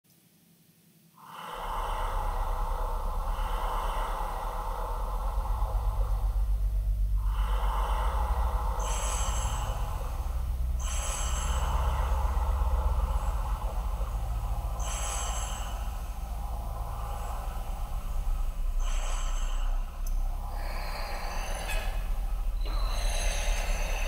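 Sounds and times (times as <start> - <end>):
breath-like swells of hiss: 1.2 - 24.0
deep low drone: 1.2 - 24.0.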